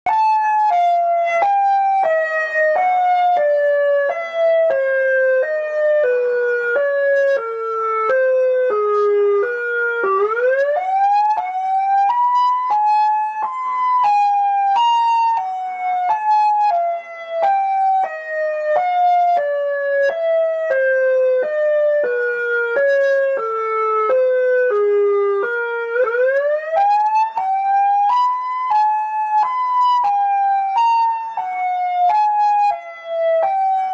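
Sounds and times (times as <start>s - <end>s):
emergency alert alarm tone: 0.1s - 33.9s.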